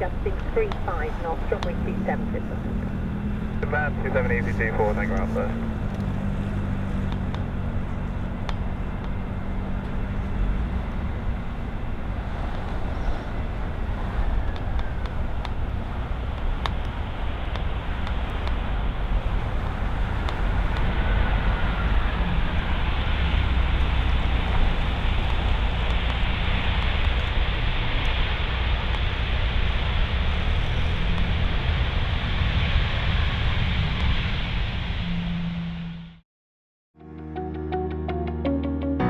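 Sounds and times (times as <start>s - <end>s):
wind gusting on microphone: 0.0s - 35.9s
jet engine noise: 0.0s - 36.2s.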